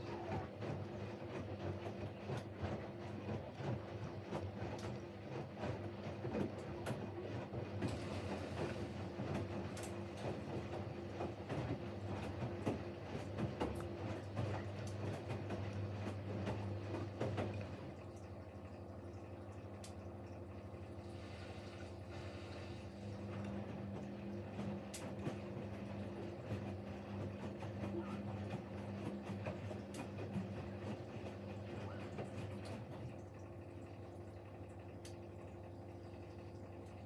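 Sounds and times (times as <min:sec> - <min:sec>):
washing machine hum: 0:00.0 - 0:37.0.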